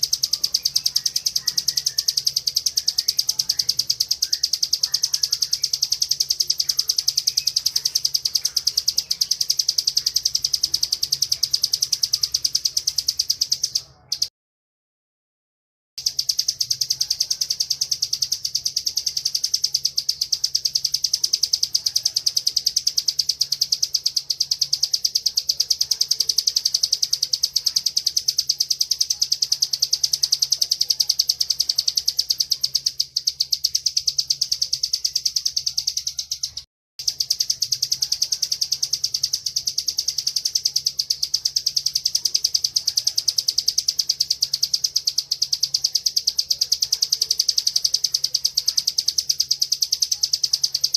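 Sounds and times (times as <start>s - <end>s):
bird high-pitched trill: 0.0s - 14.3s, 16.0s - 50.9s.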